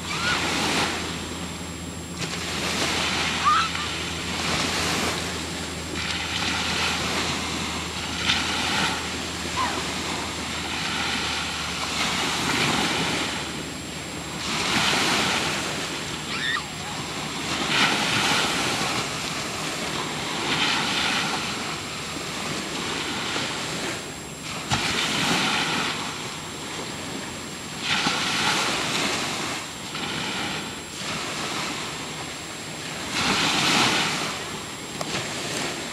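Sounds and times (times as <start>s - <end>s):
ocean surf breaking: 0.0s - 35.9s.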